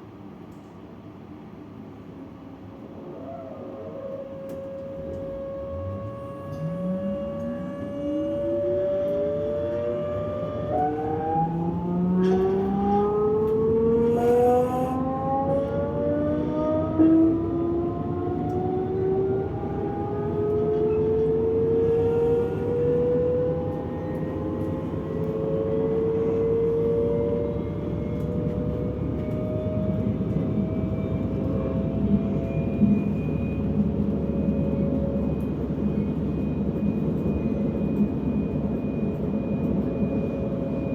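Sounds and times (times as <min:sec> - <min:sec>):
electric train traction whine: 0:04.2 - 0:40.9
train running rumble: 0:04.2 - 0:40.9.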